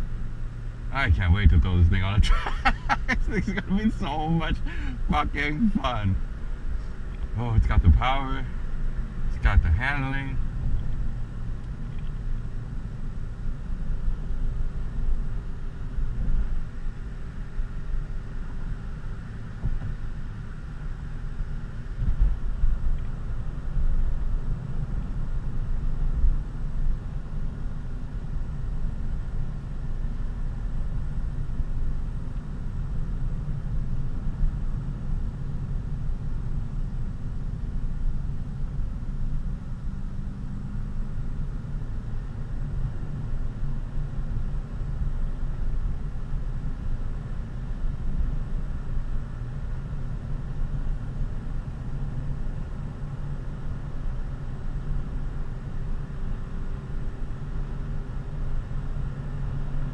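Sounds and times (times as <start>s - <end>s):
car cabin road and engine rumble: 0.0s - 59.9s.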